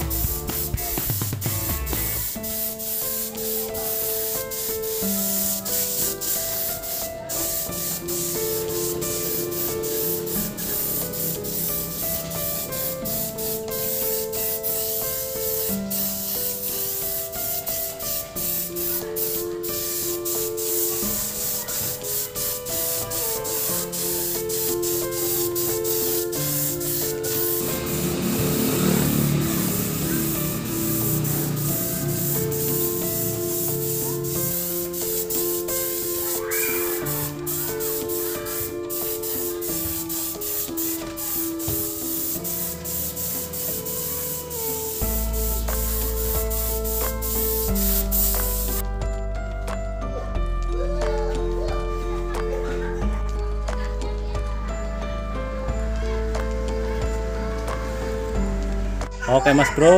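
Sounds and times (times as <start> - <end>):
paint spray gun hissing: 0.0 - 48.9
simple background melody: 0.0 - 59.9.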